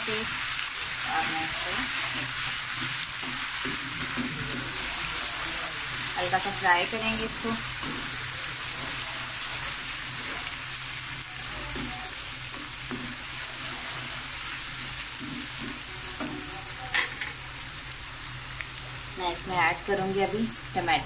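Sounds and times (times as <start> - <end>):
onions sizzling in hot oil: 0.0 - 21.0
spatula stirring in pan: 0.2 - 19.1.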